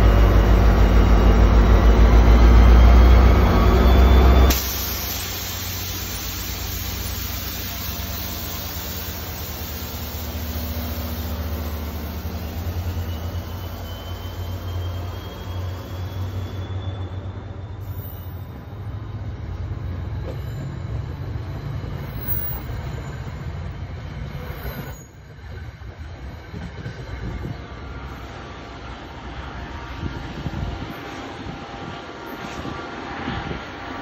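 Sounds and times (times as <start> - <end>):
diesel locomotive engine rumble: 0.0 - 34.0
train wheels on rails: 0.0 - 34.0.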